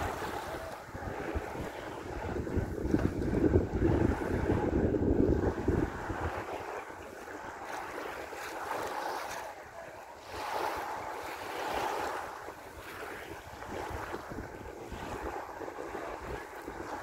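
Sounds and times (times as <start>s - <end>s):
small waves washing ashore: 0.0s - 17.0s
wind rumbling on microphone: 0.0s - 17.0s.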